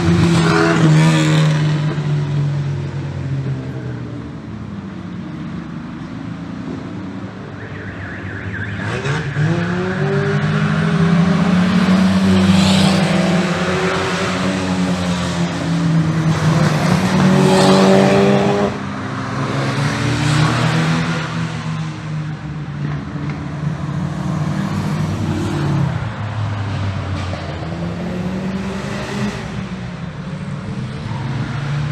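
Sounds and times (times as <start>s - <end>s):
race car engines passing: 0.0s - 31.9s.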